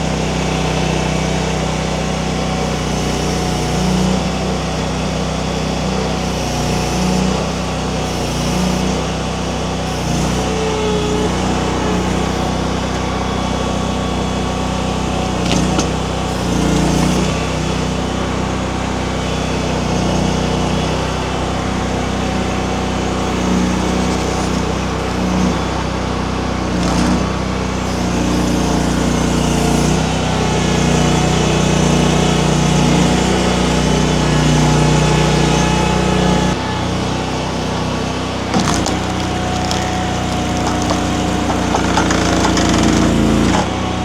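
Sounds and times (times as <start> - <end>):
skid steer engine running: 0.0 - 44.0.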